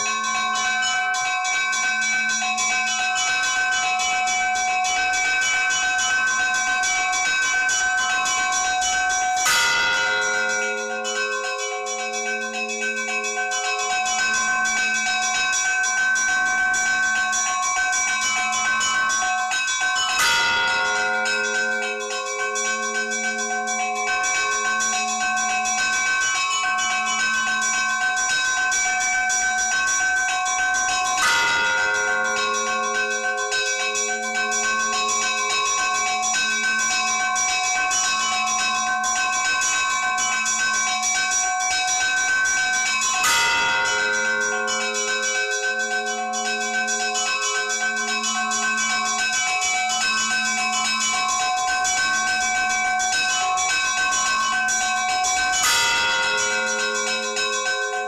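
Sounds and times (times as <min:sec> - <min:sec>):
low bell ringing steadily: 0:00.0 - 0:58.0
small bells chiming rapidly: 0:00.0 - 0:58.0.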